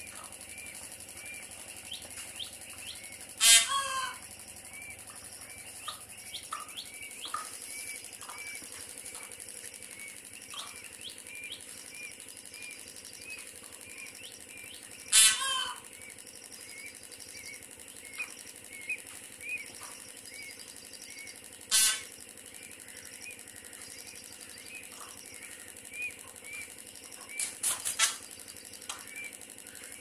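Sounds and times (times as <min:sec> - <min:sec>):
peachick peeping: 0:00.0 - 0:30.0
peahen harsh calls: 0:00.0 - 0:30.0.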